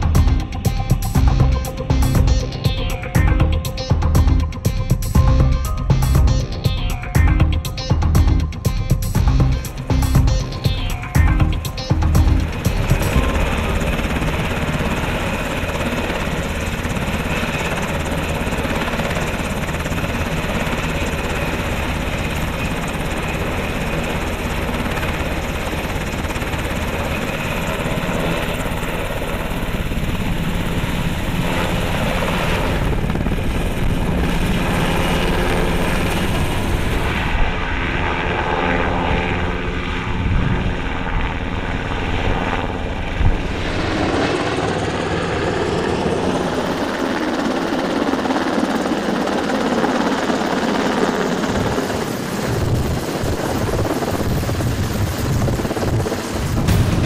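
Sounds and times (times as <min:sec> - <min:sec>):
helicopter rotor and turbine noise: 0:00.0 - 0:57.0.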